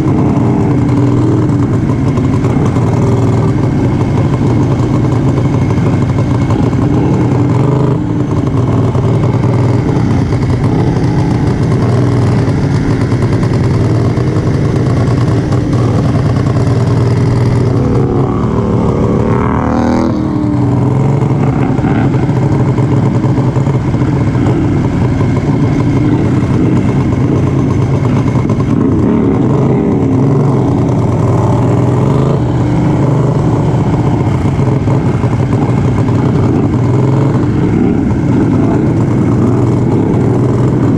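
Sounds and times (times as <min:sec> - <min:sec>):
racing lawn mower engines: 0:00.0 - 0:40.9.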